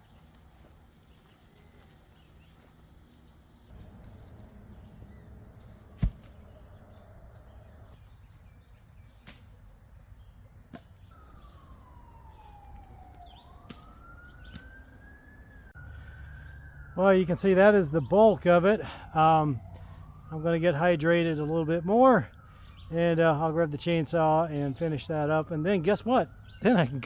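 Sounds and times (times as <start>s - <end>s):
faint siren wailing: 0.0s - 9.1s, 10.1s - 27.0s.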